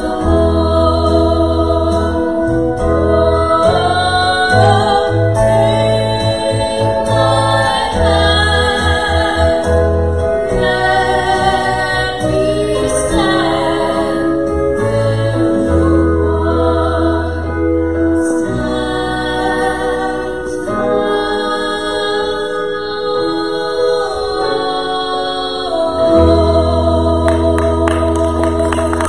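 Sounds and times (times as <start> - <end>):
held bass notes: 0.0 - 29.0
person singing worship song: 0.0 - 29.0.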